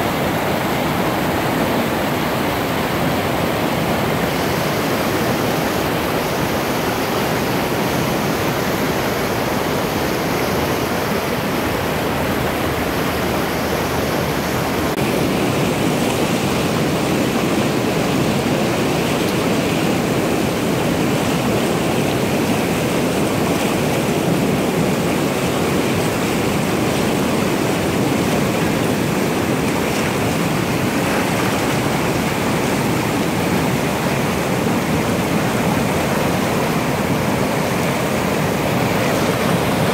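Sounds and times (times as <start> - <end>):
river rushing over rapids: 0.0 - 39.9.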